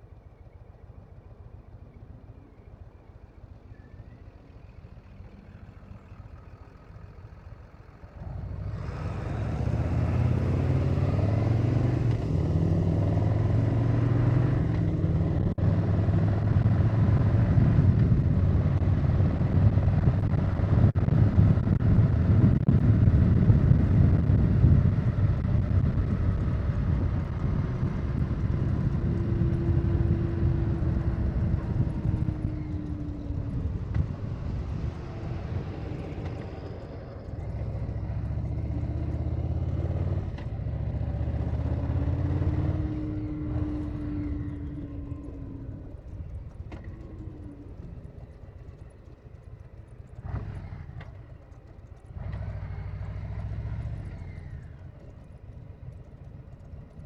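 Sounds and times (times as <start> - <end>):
wind and road noise: 0.0 - 57.0
motorcycle engine accelerating: 5.1 - 57.0.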